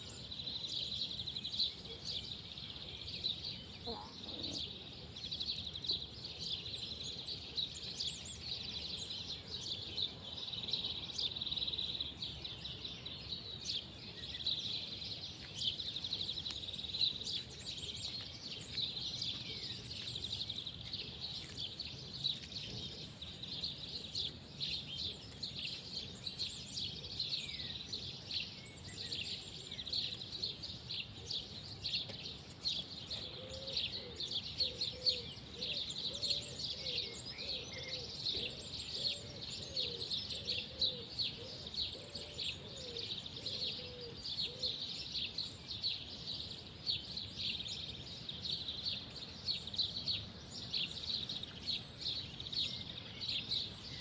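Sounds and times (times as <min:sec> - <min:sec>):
low rural background: 0:00.0 - 0:54.0
small birds chirping: 0:00.0 - 0:54.0.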